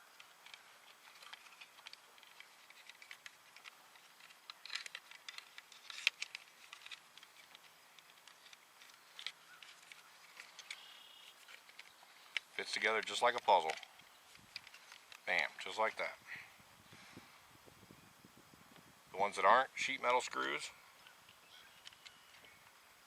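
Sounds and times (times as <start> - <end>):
plastic parts clicking and rustling: 0.1 - 16.1, 20.0 - 22.8.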